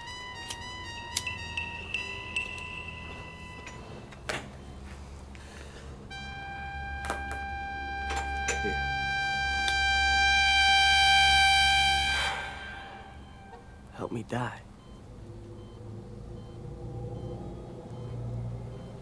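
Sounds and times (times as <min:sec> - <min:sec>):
steady high tone: 0:00.0 - 0:05.2, 0:06.0 - 0:18.2.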